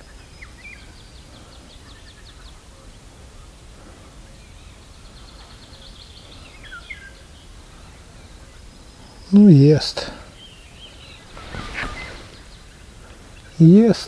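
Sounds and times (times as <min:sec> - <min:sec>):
bird chirps: 0:00.0 - 0:14.0
faint outdoor background: 0:00.0 - 0:14.0
small birds high ticking notes: 0:00.0 - 0:14.0.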